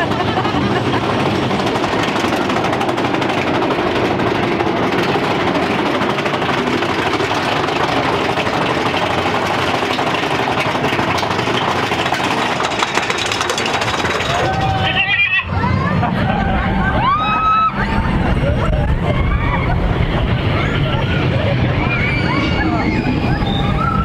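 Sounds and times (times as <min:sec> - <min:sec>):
roller coaster rumbling and rattling: 0:00.0 - 0:24.0.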